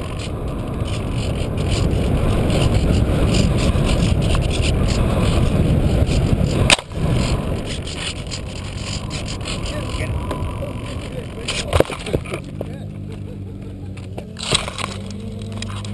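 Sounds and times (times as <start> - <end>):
airflow rushing over camera: 0.0 - 15.9.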